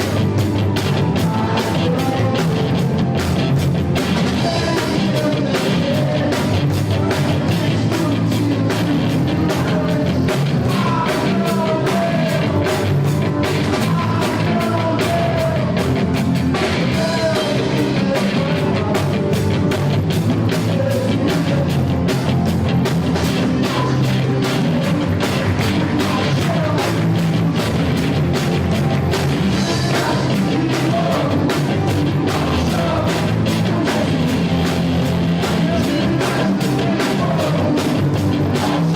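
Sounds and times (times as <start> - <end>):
person singing: 0.0 - 3.1, 4.1 - 22.3, 23.2 - 27.6, 29.4 - 38.9
drum kit fast beat: 0.0 - 38.9
live rock gospel band: 0.0 - 38.9.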